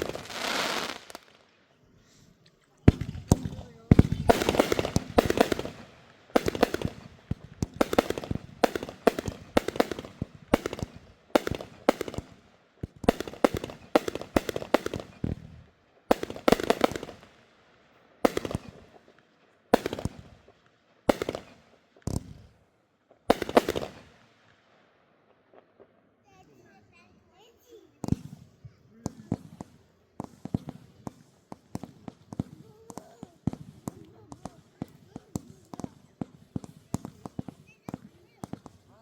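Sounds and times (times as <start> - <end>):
fireworks bangs and crackles: 0.0 - 26.0, 26.6 - 39.0.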